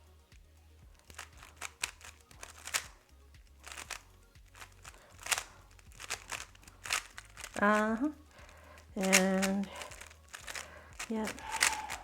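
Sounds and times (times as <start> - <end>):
speed cube plastic clicking: 1.0 - 12.0.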